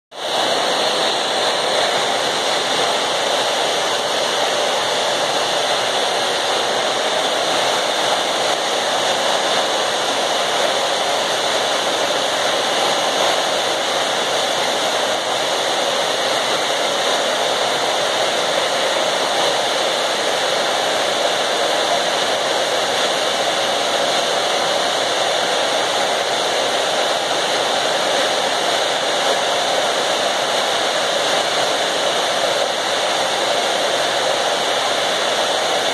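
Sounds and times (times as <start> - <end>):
oil burner furnace roaring: 0.1 - 35.9.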